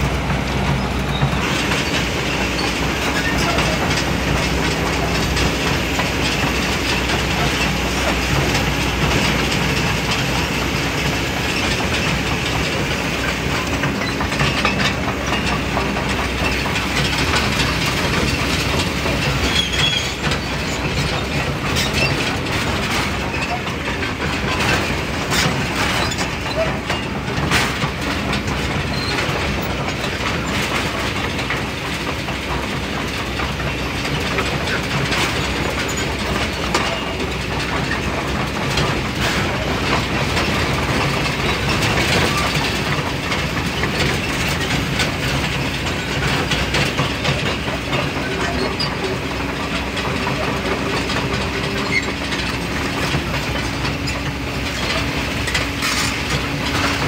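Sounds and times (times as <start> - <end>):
excavator diesel engine running: 0.0 - 57.0
metallic clanks and clatter: 0.0 - 57.0.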